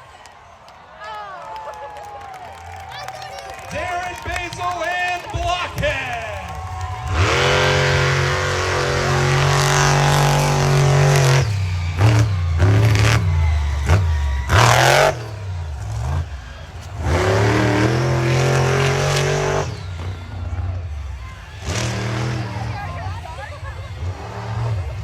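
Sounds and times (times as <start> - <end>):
monster truck engine revving: 2.5 - 25.0.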